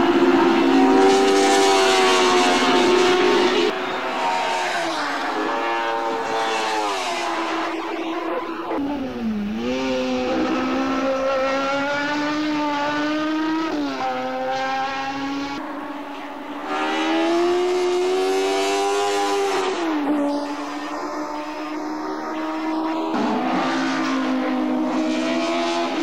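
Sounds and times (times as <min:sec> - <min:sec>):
race car engine at full throttle: 0:00.0 - 0:26.0.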